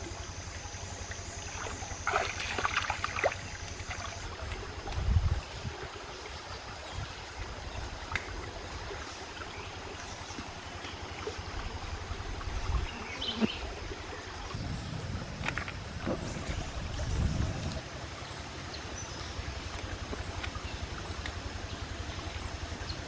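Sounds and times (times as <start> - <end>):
steady low rumble: 0.0 - 23.0
stream trickling over rocks: 0.0 - 23.0.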